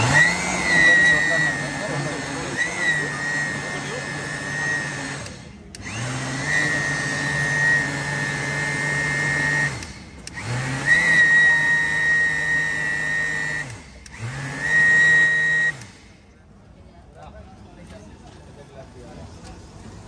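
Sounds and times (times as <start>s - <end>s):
mixer grinder motor whining: 0.0s - 16.3s.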